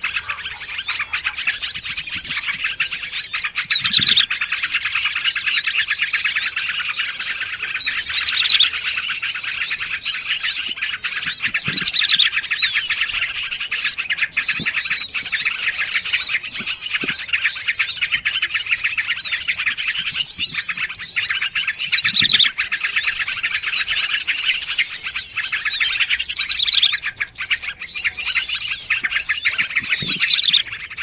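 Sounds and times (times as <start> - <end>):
songbirds chirping and chattering: 0.0 - 31.0.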